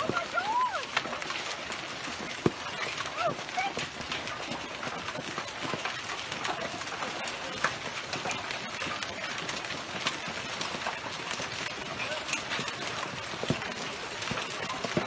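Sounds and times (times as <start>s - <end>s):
hail pelting pool and paving: 0.0s - 15.0s.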